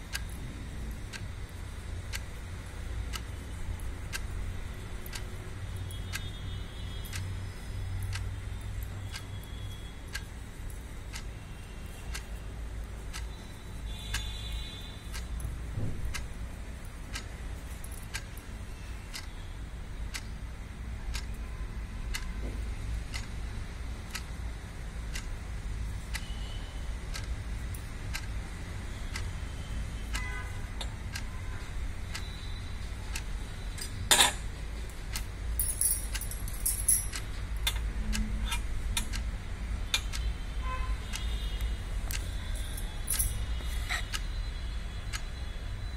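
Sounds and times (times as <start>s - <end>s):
light regular ticking: 0.0s - 45.9s
steady low hum: 0.0s - 45.9s.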